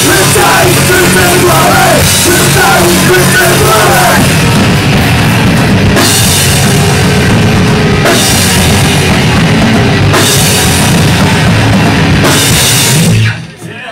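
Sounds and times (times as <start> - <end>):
punk rock band playing: 0.0 - 13.8.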